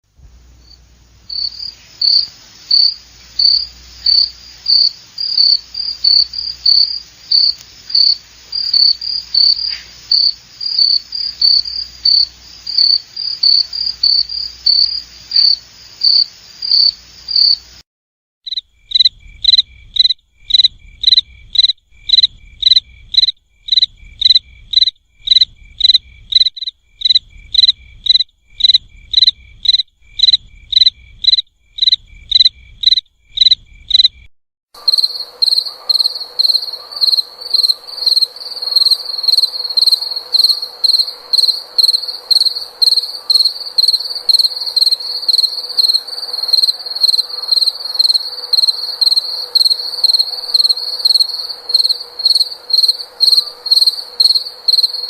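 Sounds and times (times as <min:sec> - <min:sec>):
crickets chirping: 0:00.3 - 0:17.8, 0:18.5 - 0:55.0.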